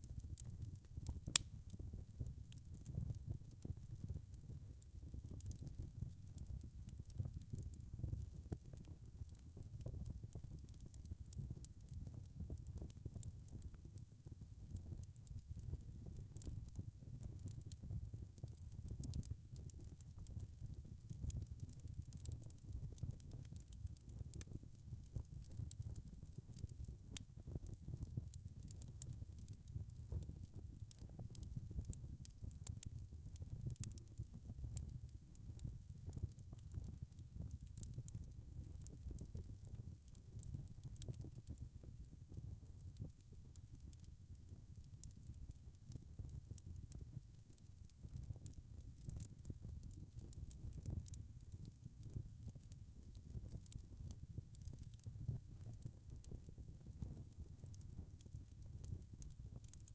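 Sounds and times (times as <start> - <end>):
low rumble of flames: 0.0 - 59.9
wood fire crackling and popping: 0.1 - 59.9.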